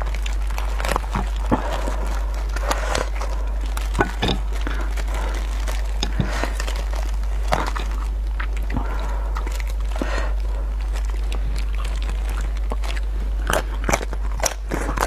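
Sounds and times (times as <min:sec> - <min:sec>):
plastic gloves crinkling: 0:00.0 - 0:15.0
steady low hum: 0:00.0 - 0:15.0
sticky clicks of meat tearing: 0:00.0 - 0:15.0.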